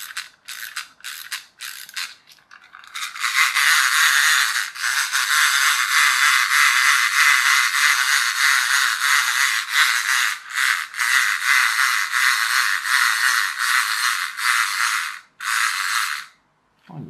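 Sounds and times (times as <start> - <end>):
wind-up toy rattling whir: 0.0 - 16.4.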